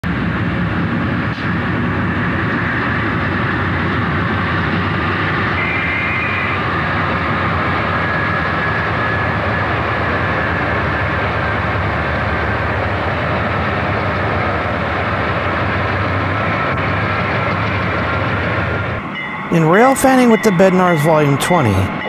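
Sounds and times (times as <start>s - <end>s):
diesel locomotive engine drone: 0.0s - 22.0s
train wheels rolling: 0.0s - 22.0s.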